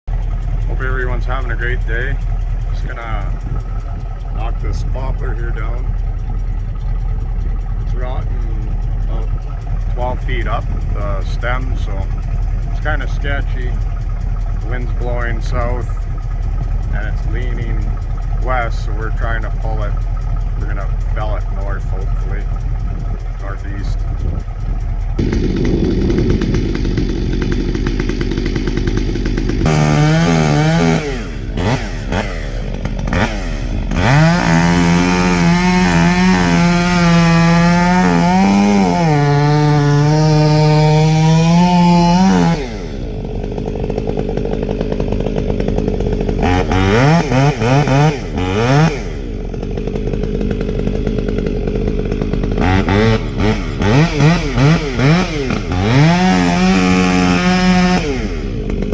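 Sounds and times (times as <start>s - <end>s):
chainsaw revving: 0.1s - 58.9s.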